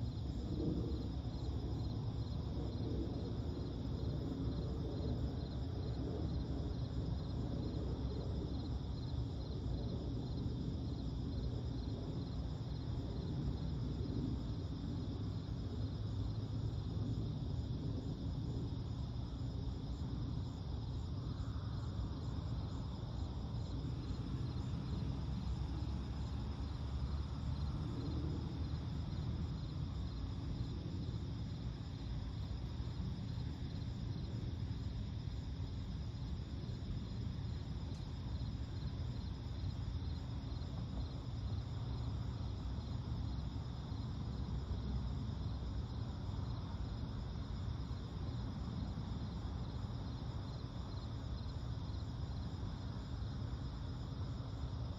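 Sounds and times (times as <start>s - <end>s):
low background rumble: 0.0s - 54.9s
night insects chirping: 0.0s - 54.9s.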